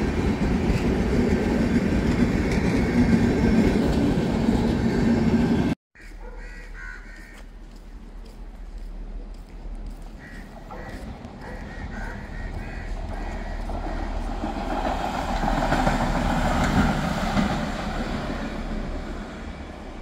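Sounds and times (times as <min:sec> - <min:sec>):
rail car rumbling on track: 0:00.0 - 0:05.8, 0:07.5 - 0:20.0.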